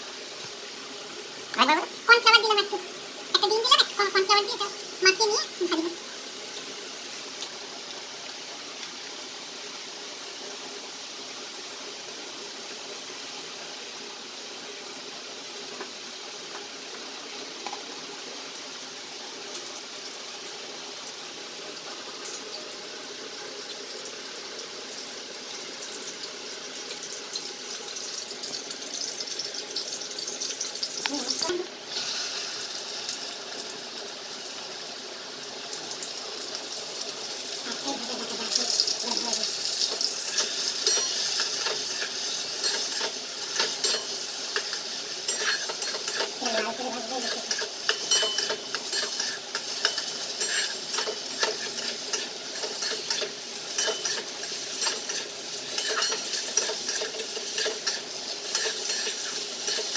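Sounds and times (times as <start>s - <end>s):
chicken frying in hot oil: 0.0s - 59.9s.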